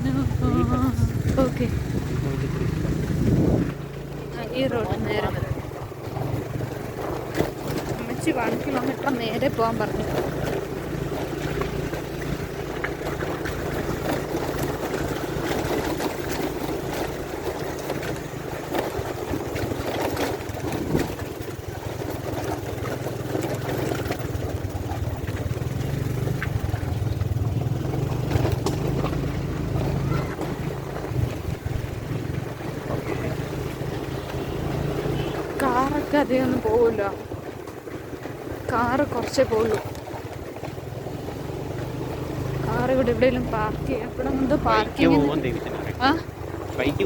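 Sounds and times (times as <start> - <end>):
road and wind noise: 0.0 - 47.0
vehicle engine running: 0.0 - 47.0.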